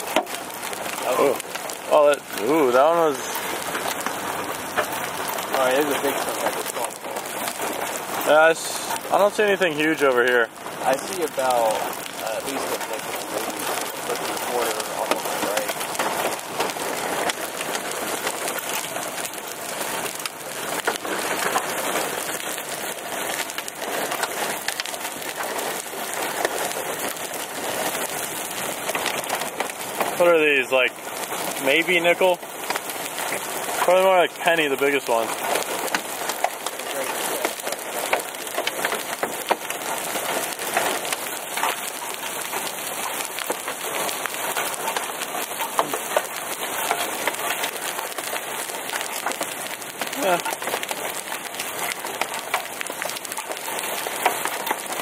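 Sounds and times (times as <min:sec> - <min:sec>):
hail and rain pelting a car: 0:00.0 - 0:55.0
hailstones clicking: 0:00.0 - 0:55.0.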